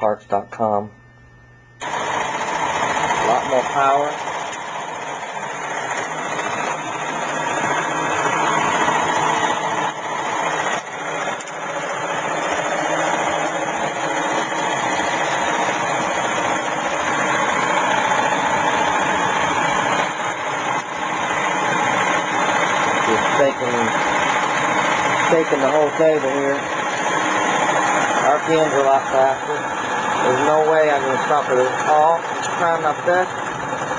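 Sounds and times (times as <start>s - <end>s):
electric motor whirring: 1.0s - 33.9s.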